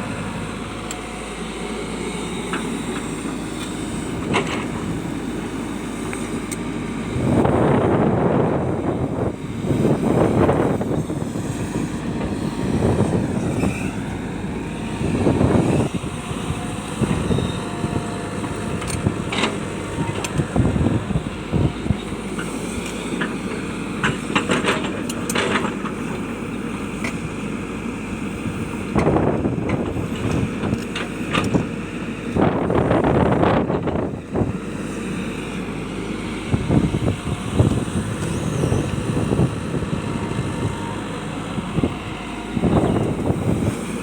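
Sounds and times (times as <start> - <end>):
excavator diesel engine working: 0.0 - 44.0.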